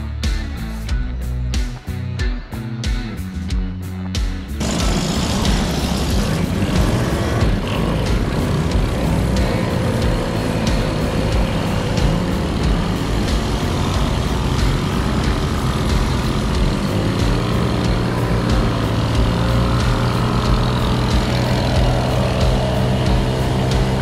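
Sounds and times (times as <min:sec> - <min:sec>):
two-stroke moped engine running: 0:04.6 - 0:24.0.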